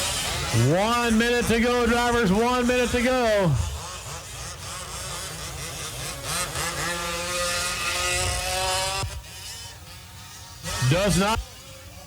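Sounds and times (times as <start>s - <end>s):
rc truck engines revving: 0.0s - 12.0s.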